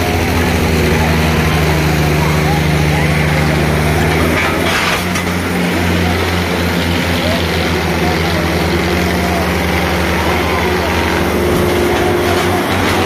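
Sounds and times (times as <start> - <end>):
tractor engines at full throttle: 0.0 - 13.0.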